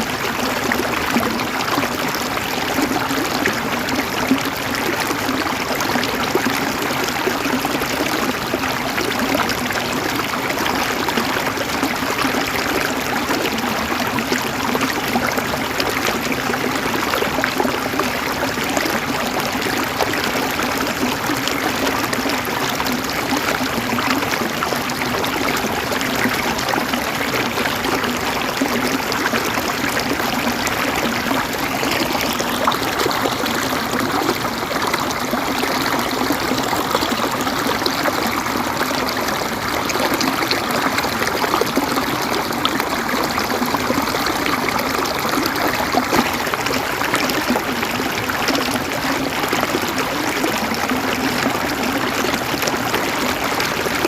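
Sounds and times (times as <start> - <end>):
river water gurgling over stones: 0.0 - 54.0.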